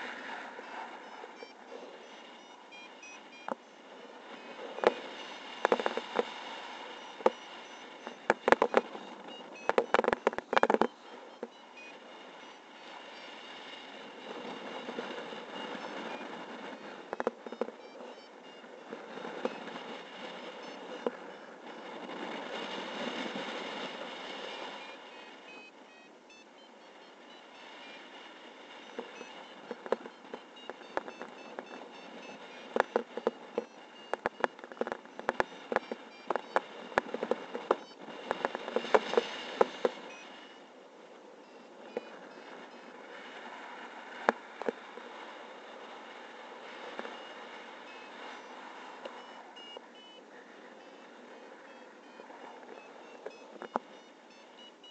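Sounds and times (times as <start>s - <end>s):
wind rushing over microphone: 0.0s - 26.3s, 27.1s - 54.8s
crackling wind buffeting: 0.0s - 54.9s
faint high beeps: 0.0s - 54.9s.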